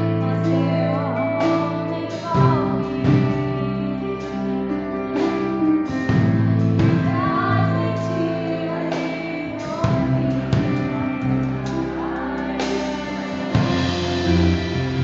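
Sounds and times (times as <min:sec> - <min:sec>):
person singing into a microphone: 0:00.0 - 0:05.3, 0:06.8 - 0:14.4
sustained keyboard chords: 0:00.0 - 0:15.0.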